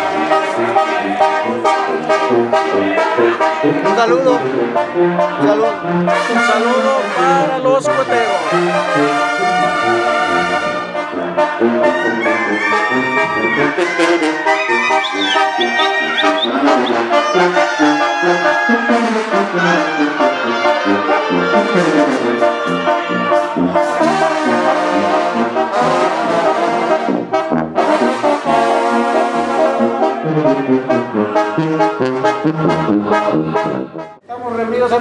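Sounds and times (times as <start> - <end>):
brass band playing: 0.0 - 34.2.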